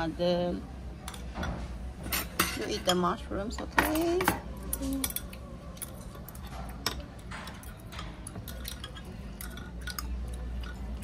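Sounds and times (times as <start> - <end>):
utensils clinking against metal pot: 1.0 - 11.0.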